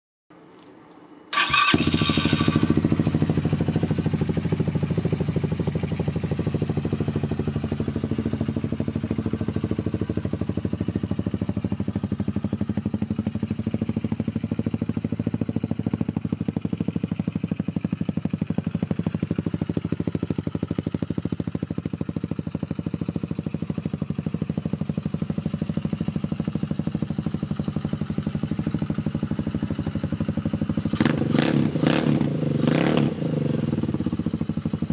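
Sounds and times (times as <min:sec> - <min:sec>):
motorcycle engine starting and idling: 0:01.3 - 0:34.9.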